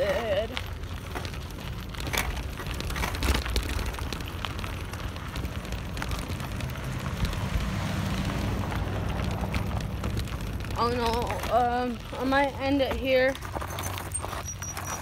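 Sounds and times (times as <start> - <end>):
low rumble: 0.0 - 12.6
bicycle tyres crackling on grit: 0.0 - 15.0
bike rattling and knocking: 0.0 - 15.0.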